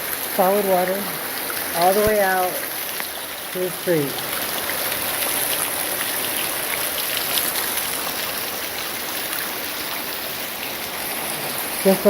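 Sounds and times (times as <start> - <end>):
heavy rain hiss: 0.0 - 12.0
ticks of raindrops: 0.0 - 12.0.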